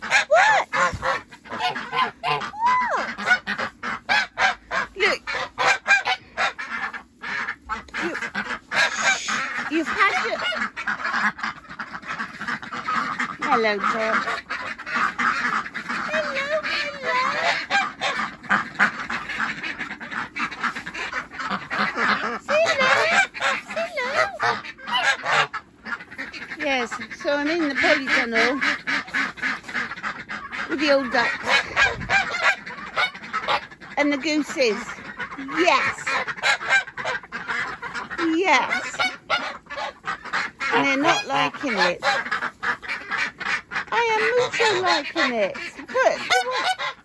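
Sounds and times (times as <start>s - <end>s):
ducks quacking: 0.0s - 47.0s
geese honking: 0.0s - 47.0s.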